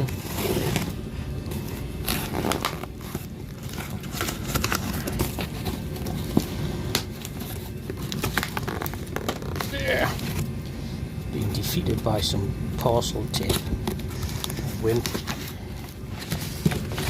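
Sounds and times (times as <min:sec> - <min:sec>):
cardboard and tape crinkling: 0:00.0 - 0:10.5, 0:12.8 - 0:17.0
steady low rumble: 0:00.0 - 0:17.0.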